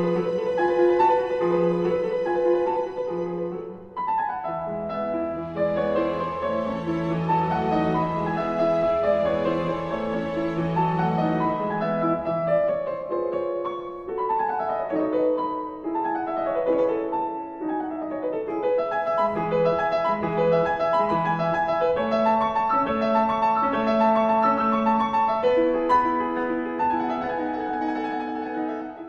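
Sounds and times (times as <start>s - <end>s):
background piano music: 0.0s - 29.0s.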